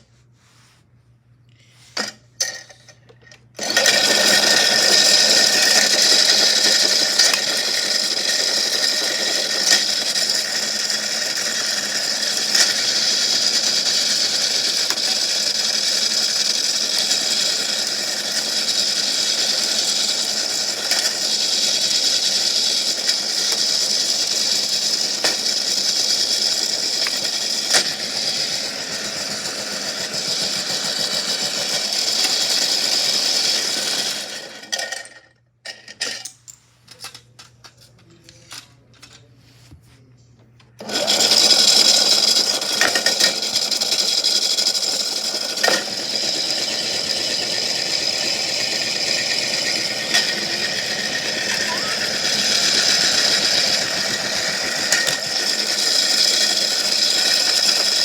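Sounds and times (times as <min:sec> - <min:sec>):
small electric motor whirring: 0:03.6 - 0:34.4, 0:40.8 - 0:58.0.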